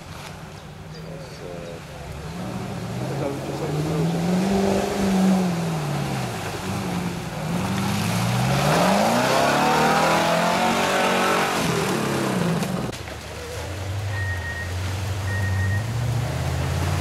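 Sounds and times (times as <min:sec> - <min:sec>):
tyres splashing through mud: 0:00.0 - 0:17.0
off-road vehicle engine revving: 0:01.4 - 0:17.0.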